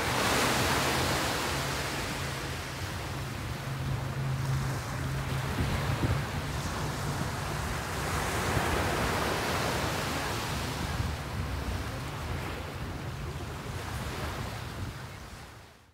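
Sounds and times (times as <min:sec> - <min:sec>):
small waves breaking on sandy beach: 0:00.0 - 0:15.9.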